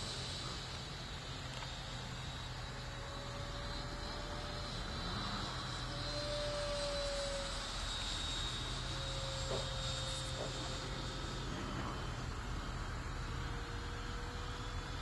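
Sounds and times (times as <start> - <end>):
model jet fan whining: 0.0 - 15.0.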